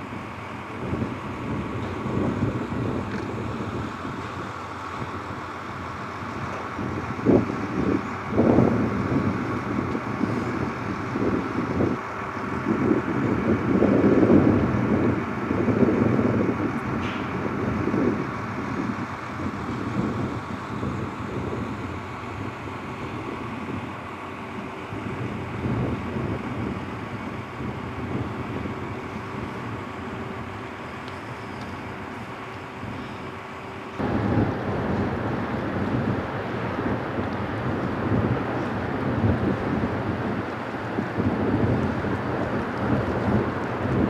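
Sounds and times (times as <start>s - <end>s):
vehicle engines running: 0.0s - 44.0s.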